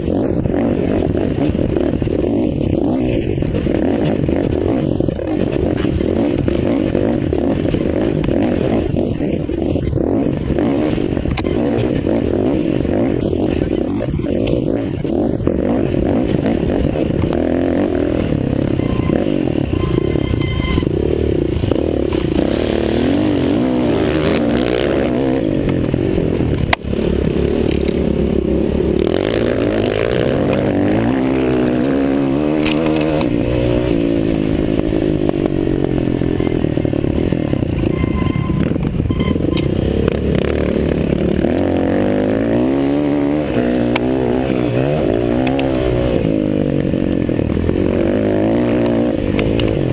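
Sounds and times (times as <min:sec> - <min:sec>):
motocross bike engines revving: 0:00.0 - 0:49.9.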